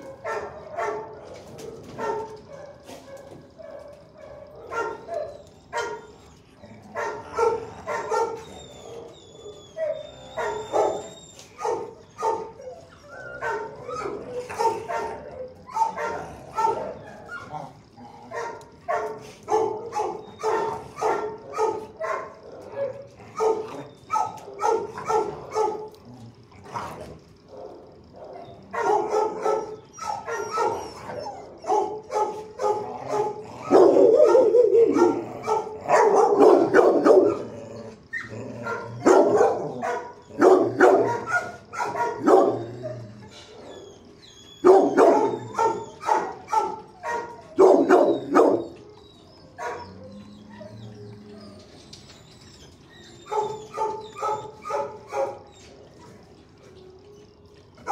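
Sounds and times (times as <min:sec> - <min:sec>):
dogs barking: 0:00.0 - 0:57.9.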